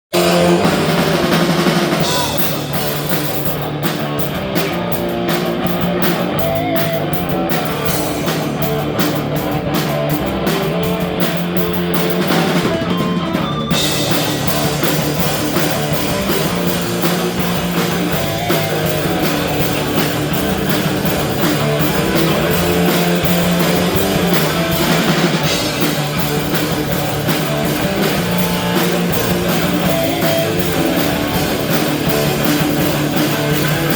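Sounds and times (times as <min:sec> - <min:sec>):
rock band playing live: 0:00.0 - 0:33.9.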